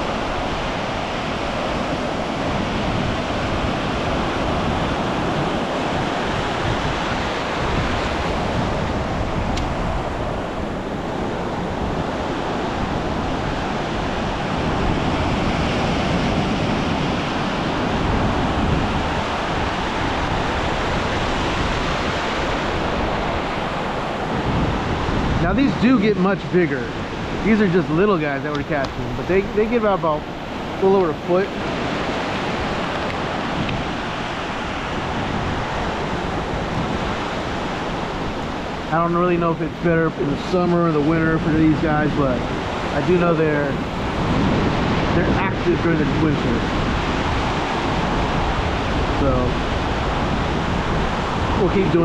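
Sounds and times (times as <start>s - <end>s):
waves breaking on a beach: 0.0s - 52.0s
wind rumbling on microphone: 0.0s - 52.0s.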